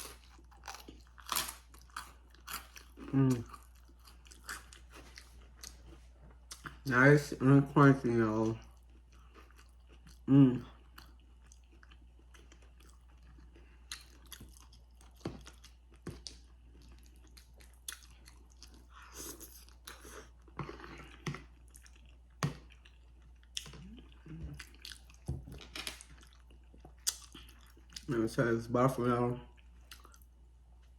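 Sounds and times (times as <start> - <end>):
chewing crispy fried chicken: 0.0 - 30.9.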